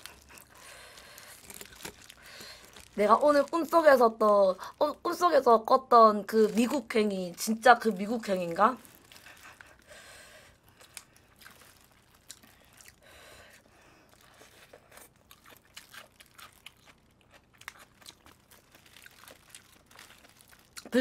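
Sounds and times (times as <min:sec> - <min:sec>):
soft chewing: 0:00.0 - 0:03.0, 0:06.3 - 0:21.0
plastic gloves and foil crinkling: 0:00.0 - 0:21.0.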